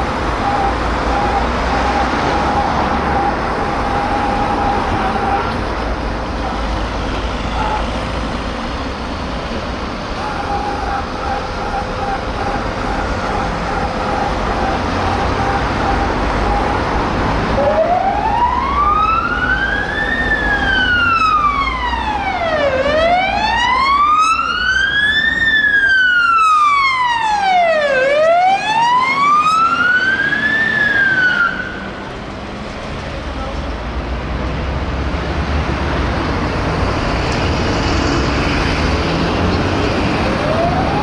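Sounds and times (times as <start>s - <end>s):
fire engine siren wailing: 0.0s - 8.2s, 9.9s - 32.1s, 37.1s - 41.0s.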